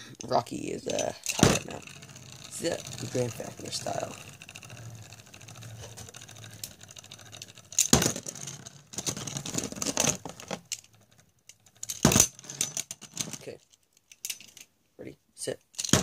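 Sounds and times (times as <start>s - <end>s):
spinning top clacking loudly: 0.2s - 13.5s
spinning top whirring and rattling: 0.2s - 13.6s.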